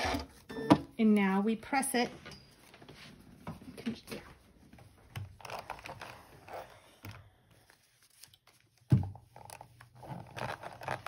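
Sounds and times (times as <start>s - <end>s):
paper and fabric rustling: 1.0s - 11.0s.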